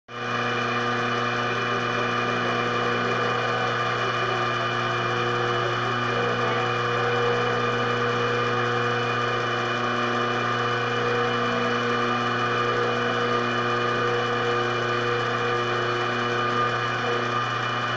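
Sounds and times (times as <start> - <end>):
milling spindle whine: 0.1 - 17.9.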